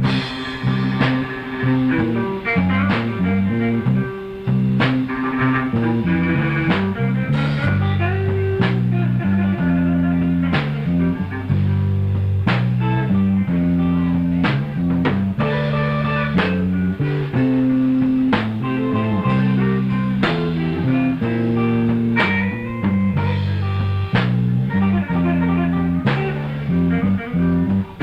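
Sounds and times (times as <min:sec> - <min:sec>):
blues band playing: 0:00.0 - 0:28.0
drum backbeat: 0:00.0 - 0:28.0
electric guitar: 0:00.0 - 0:28.0.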